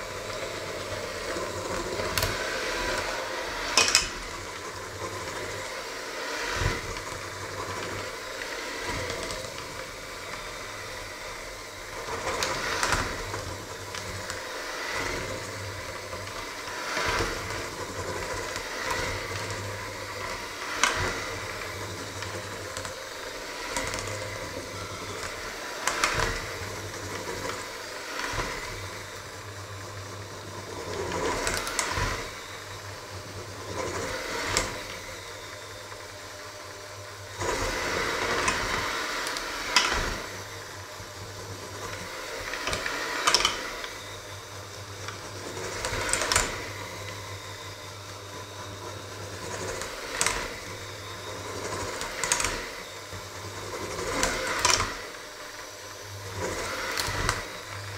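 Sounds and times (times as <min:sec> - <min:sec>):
electric hand mixer running: 0:00.0 - 0:57.9.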